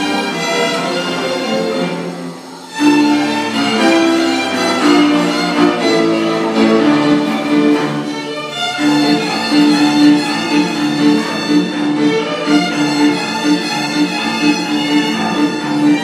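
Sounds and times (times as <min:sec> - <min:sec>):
string orchestra sustained notes: 0:00.0 - 0:16.0.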